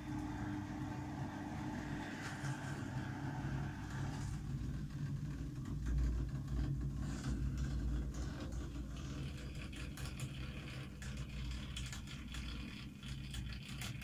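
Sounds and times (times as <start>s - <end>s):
washing machine drum spinning: 0.0s - 14.0s.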